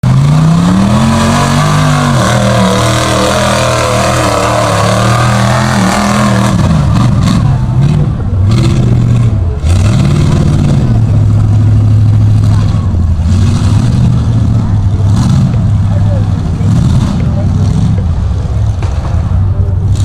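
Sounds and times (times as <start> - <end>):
pickup truck engine revving: 0.0 - 20.0.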